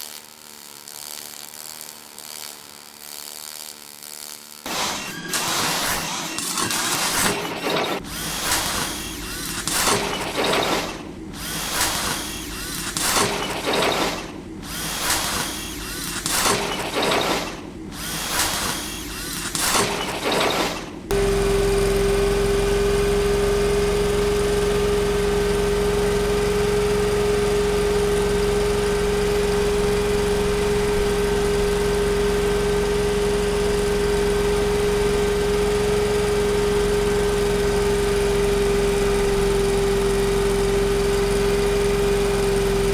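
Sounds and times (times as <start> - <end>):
machine droning: 3.7 - 42.9
cyclic machine running in surges: 4.7 - 22.0, 23.8 - 42.9.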